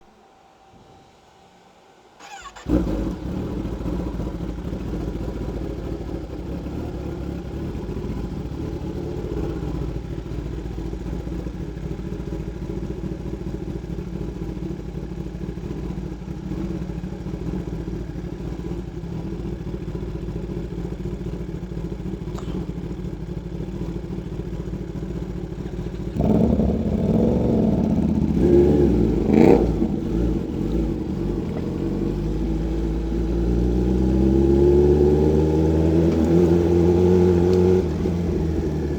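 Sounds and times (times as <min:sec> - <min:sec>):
motorcycle engine idling and revving: 0:02.2 - 0:38.9.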